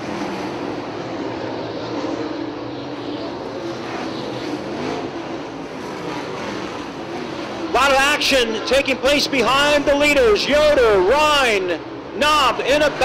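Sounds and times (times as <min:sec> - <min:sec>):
race car engines roaring past: 0:00.0 - 0:13.0.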